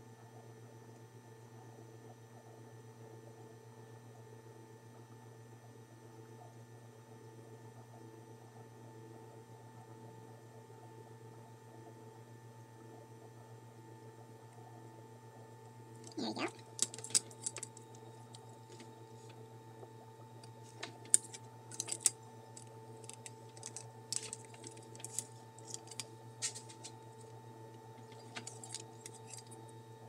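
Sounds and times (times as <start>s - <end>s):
faint electrical mains hum: 0.0s - 30.0s.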